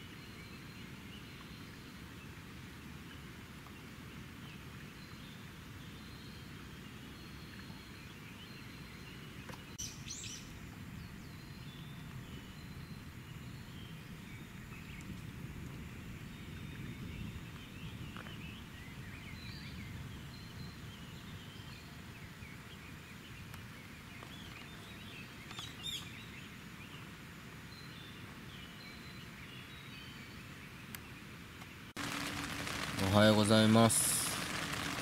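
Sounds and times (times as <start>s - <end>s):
low outdoor background: 0.0s - 35.0s
wild birds chirping: 3.8s - 15.5s, 16.1s - 27.1s, 27.7s - 35.0s.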